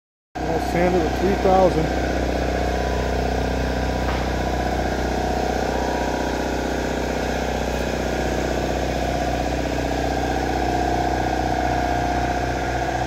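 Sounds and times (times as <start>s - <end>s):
shop machine humming: 0.4s - 13.0s.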